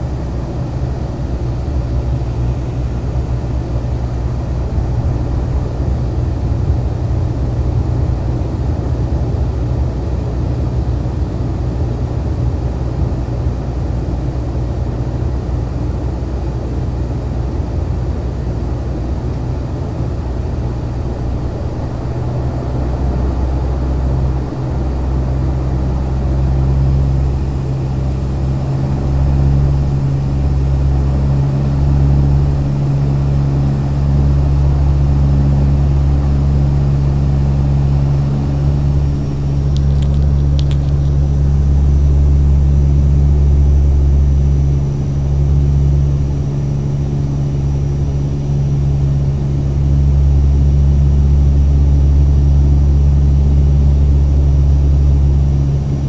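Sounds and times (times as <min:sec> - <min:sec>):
turboprop drone inside cabin: 0:00.0 - 0:56.0.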